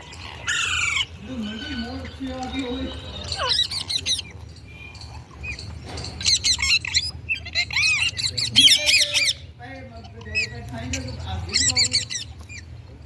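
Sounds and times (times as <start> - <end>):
parakeet shrill squawking: 0.2 - 4.3, 6.2 - 12.6.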